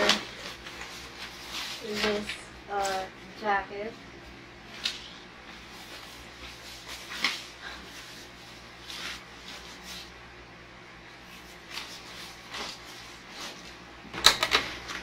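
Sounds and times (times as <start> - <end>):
jacket fabric rustling: 0.0 - 3.9, 4.6 - 10.3, 11.0 - 13.9.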